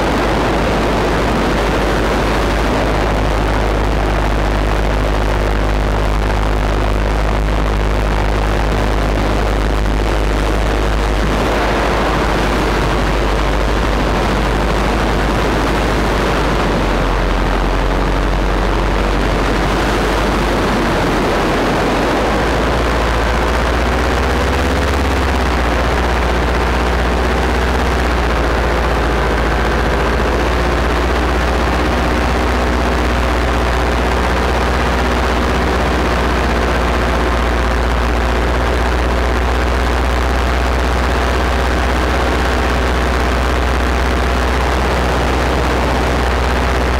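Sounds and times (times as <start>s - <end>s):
paramotor engine running: 0.0s - 46.9s
wind noise on microphone: 0.0s - 46.9s.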